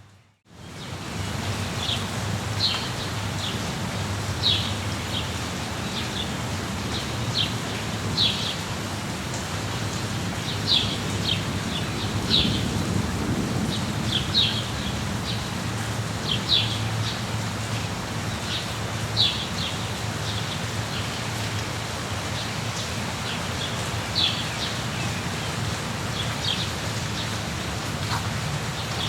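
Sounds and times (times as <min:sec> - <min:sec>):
steady rain: 0:00.4 - 0:29.0.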